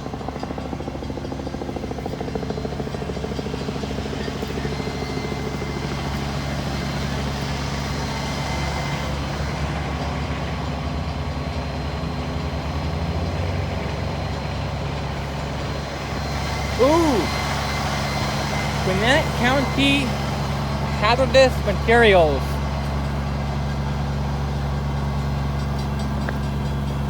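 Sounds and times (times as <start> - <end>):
heavy engine droning: 0.0 - 27.0.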